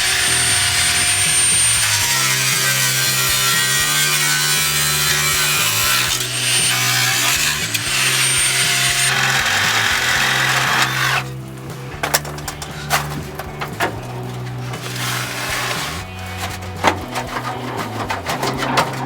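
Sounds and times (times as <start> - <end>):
power saw cutting metal pipe: 0.0 - 19.0.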